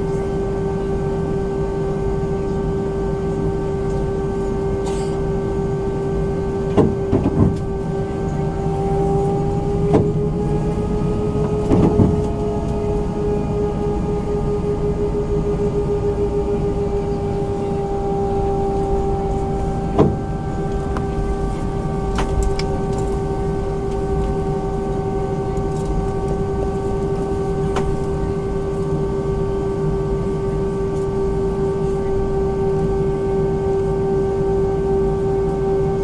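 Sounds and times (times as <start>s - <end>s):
aircraft engine hum: 0.0s - 36.0s.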